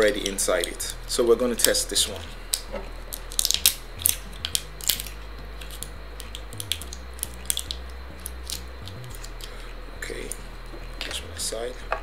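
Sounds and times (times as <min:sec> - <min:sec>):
fingers clicking and scraping a coil: 0:00.0 - 0:12.0
steady low hum: 0:00.0 - 0:12.0.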